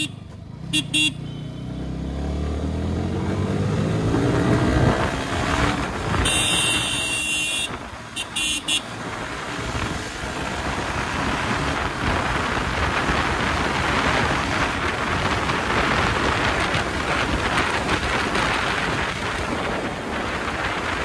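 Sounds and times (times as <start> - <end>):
low road rumble: 0.0 - 21.0
wind rush on microphone: 3.0 - 21.0.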